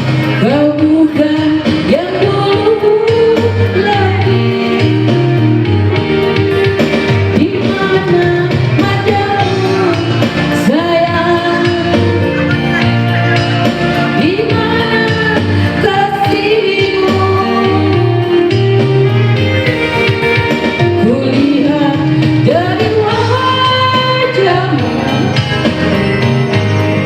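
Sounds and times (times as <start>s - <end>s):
instrumental backing with bass beat: 0.0s - 27.0s
person singing: 0.4s - 25.6s.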